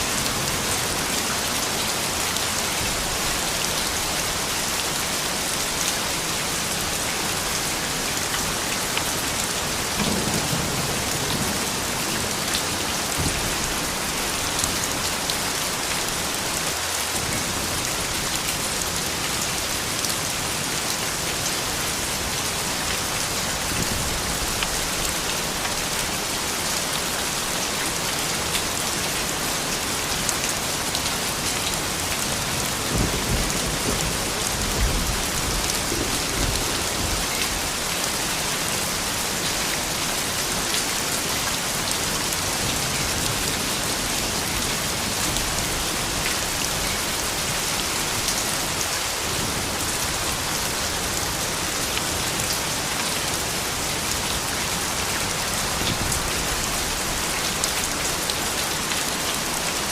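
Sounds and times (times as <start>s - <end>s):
steady rain with drop ticks: 0.0s - 59.9s.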